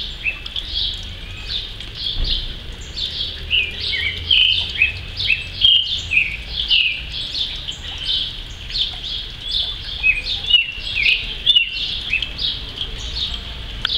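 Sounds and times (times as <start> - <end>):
thrush singing: 0.0 - 13.9.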